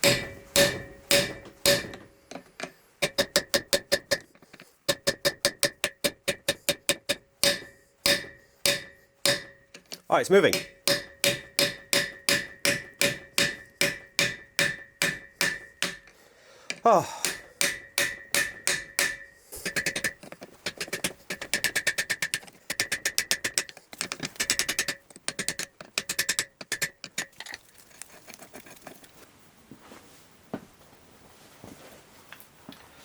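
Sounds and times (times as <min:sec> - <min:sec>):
hammer striking metal: 0:00.0 - 0:04.3, 0:04.9 - 0:27.3.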